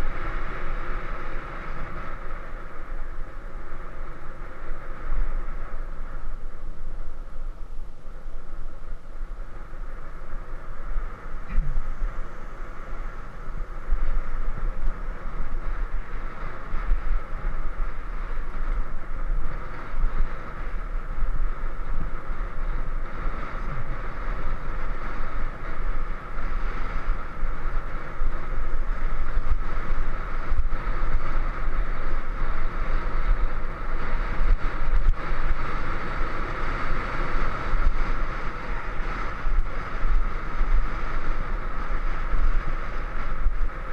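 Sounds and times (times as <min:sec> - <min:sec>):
road noise rumble: 0:00.0 - 0:43.9
wind buffeting microphone: 0:00.0 - 0:43.9.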